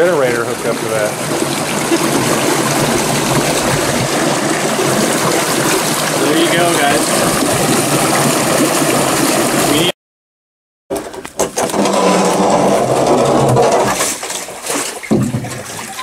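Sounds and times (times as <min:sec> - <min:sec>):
water gushing through culvert: 0:00.0 - 0:09.9, 0:11.7 - 0:16.0
water splashing and sloshing: 0:00.0 - 0:09.9, 0:11.0 - 0:16.0.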